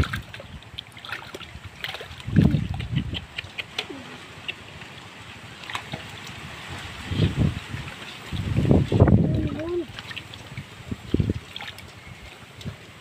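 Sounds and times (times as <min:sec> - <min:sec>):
hands squelching in wet mud: 0:00.0 - 0:13.0
small wet clicks and splashes: 0:00.0 - 0:13.0.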